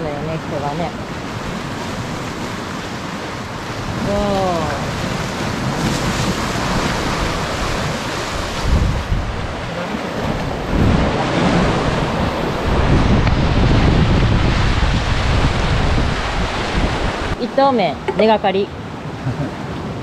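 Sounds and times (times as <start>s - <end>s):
waves breaking over rocks: 0.0s - 17.4s
wind buffeting microphone: 0.0s - 20.0s.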